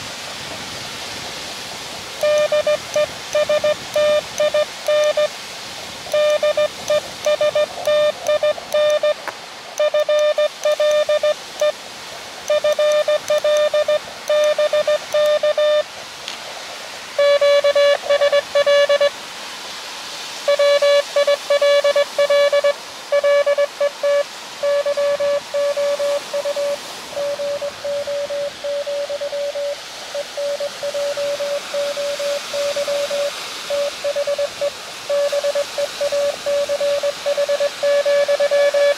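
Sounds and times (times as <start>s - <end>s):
morse code tone: 2.2s - 5.3s, 6.1s - 9.2s, 9.8s - 11.8s, 12.5s - 15.9s, 17.2s - 19.1s, 20.5s - 38.9s.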